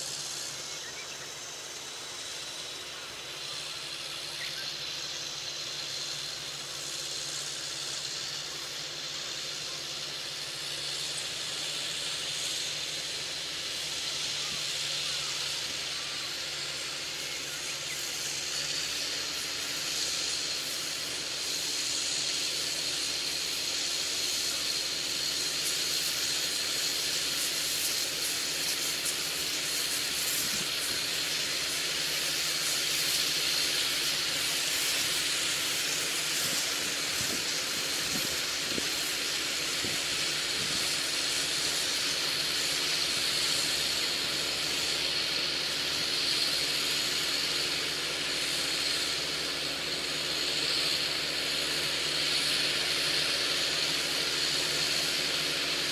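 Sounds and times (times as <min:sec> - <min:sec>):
distant tractor hum: 0:00.0 - 0:55.9
steady high hiss: 0:00.0 - 0:55.9.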